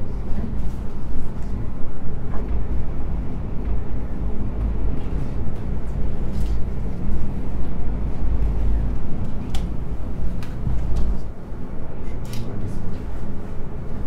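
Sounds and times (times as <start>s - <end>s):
gondola rumble and hum: 0.0s - 14.0s.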